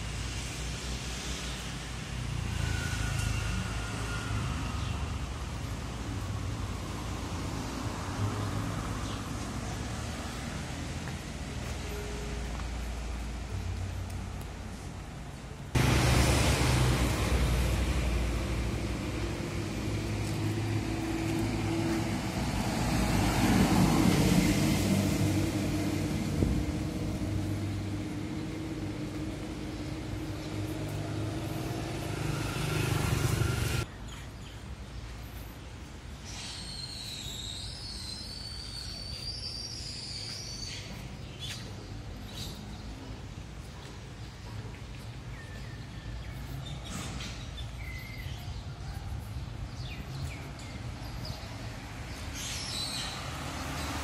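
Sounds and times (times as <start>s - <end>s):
passing cars and motorbikes: 0.0s - 33.9s, 40.7s - 54.0s
quiet street background: 0.0s - 54.0s.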